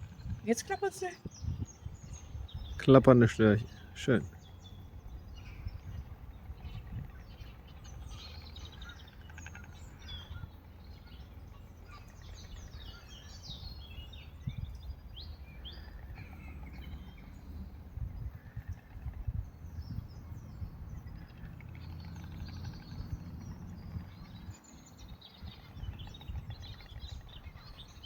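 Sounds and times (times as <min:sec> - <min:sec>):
songbirds chirping: 0:00.0 - 0:28.0
wind rumble on microphone: 0:00.0 - 0:28.0.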